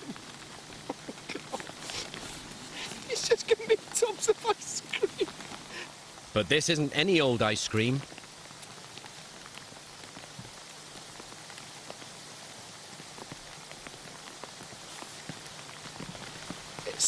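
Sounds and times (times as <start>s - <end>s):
rain falling: 0.0s - 17.0s
raindrops ticking: 0.0s - 17.0s.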